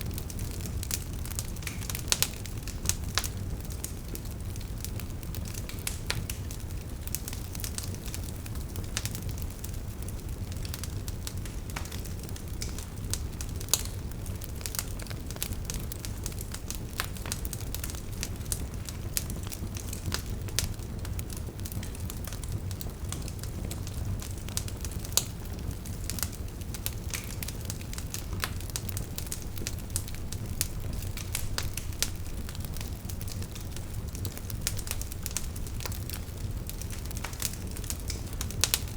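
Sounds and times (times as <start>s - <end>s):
logs crackling and popping: 0.0s - 38.9s
low rumble of flames: 0.0s - 38.9s.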